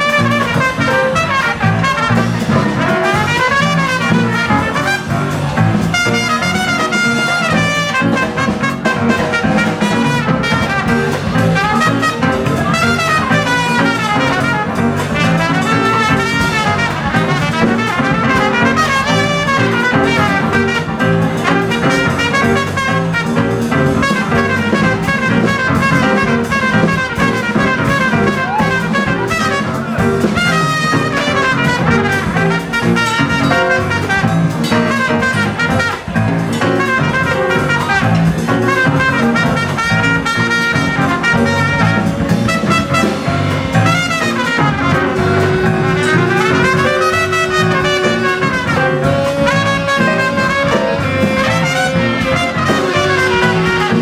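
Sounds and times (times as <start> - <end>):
double bass: 0.0 - 54.0
drums: 0.0 - 54.0
trumpet solo: 0.0 - 54.0.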